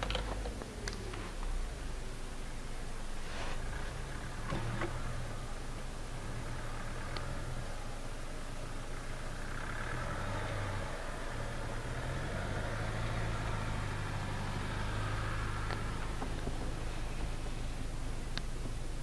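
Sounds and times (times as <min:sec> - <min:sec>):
car engine idling: 0:00.0 - 0:19.0
passing car engine and tyres: 0:00.0 - 0:19.0.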